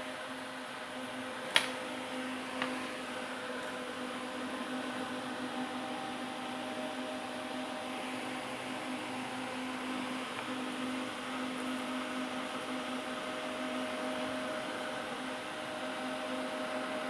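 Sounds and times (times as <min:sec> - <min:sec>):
small fans whirring: 0:00.0 - 0:17.0.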